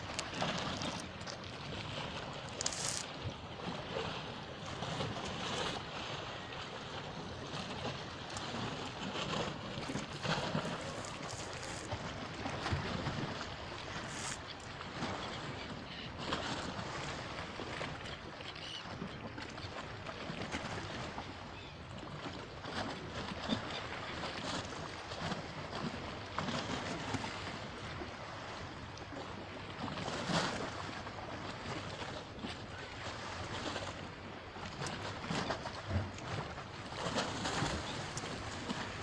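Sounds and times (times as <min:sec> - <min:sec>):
sea water lapping and splashing: 0:00.0 - 0:39.0.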